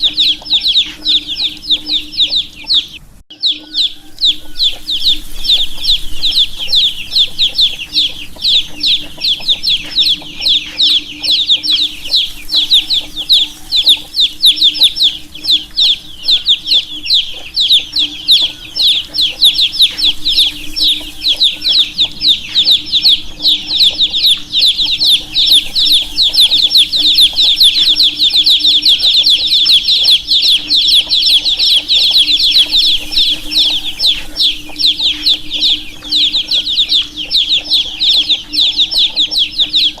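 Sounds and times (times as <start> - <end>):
baby chicks peeping: 0.0 - 40.0
steady low hum: 0.0 - 40.0.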